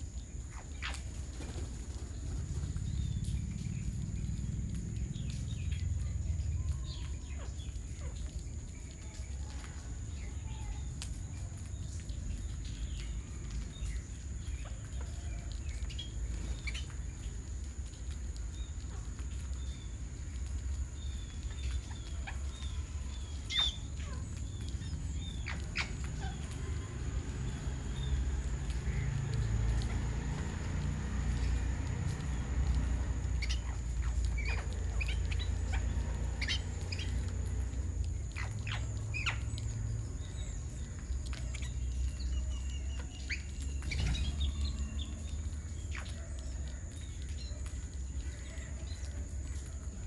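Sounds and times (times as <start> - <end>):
birds chirping: 0.0 - 50.0
low steady rumble: 0.0 - 50.0.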